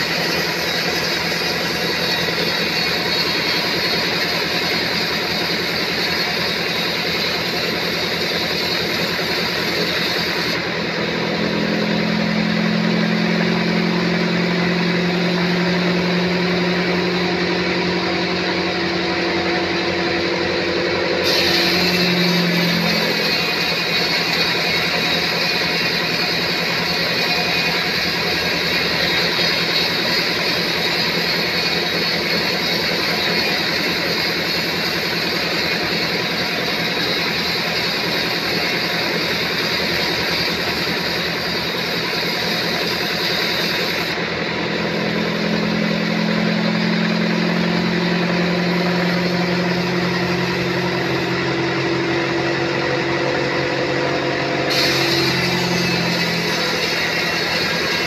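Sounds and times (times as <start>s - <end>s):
sawmill saw cutting wood: 0.0s - 58.0s.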